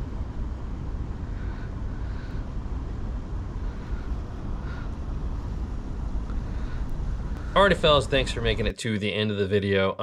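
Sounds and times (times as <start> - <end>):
wind rumble on microphone: 0.0 - 8.7.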